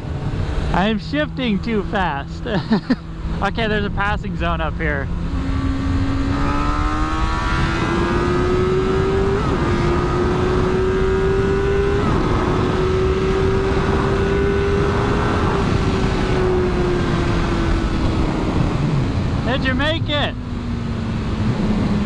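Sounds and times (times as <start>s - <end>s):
motorcycle engine accelerating: 0.0s - 22.0s
wind rushing over microphone: 0.0s - 22.0s.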